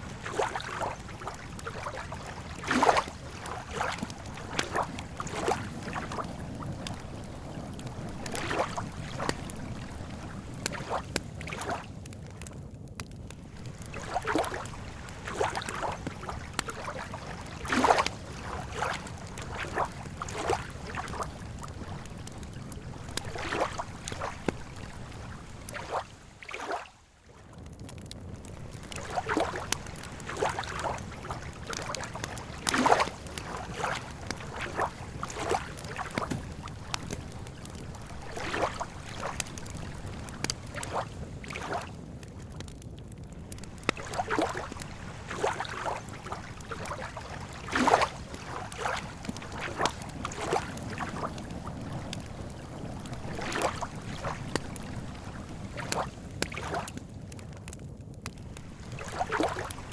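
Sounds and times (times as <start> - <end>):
lake water lapping at shore: 0.0 - 12.5, 13.4 - 27.6, 28.4 - 42.6, 43.4 - 57.3, 58.4 - 59.9
campfire crackles: 0.0 - 59.9.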